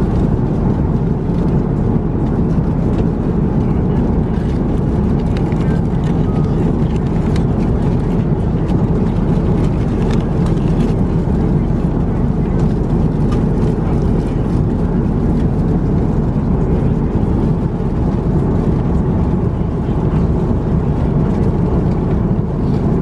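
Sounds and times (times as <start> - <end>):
airplane cabin noise: 0.0 - 23.0.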